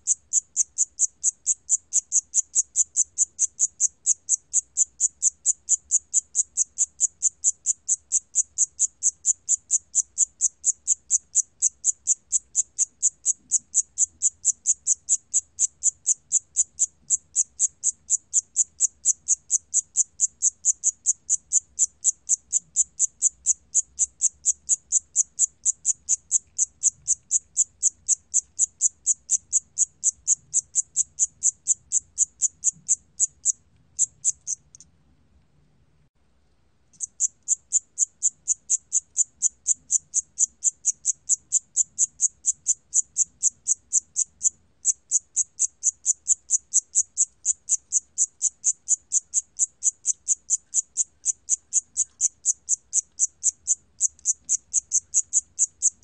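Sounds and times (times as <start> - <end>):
cricket chirping: 0.0 - 34.9, 36.9 - 56.0.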